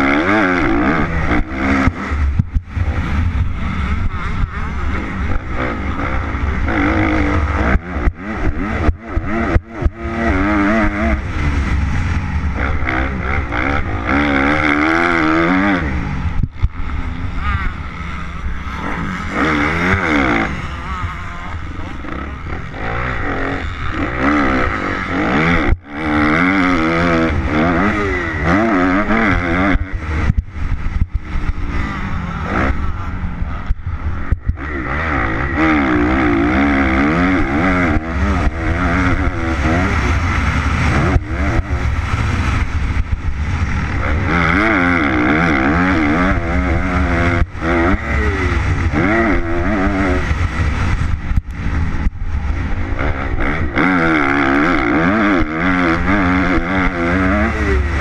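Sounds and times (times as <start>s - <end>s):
motorcycle engine revving: 0.0s - 58.0s
wind rumble on microphone: 0.0s - 58.0s.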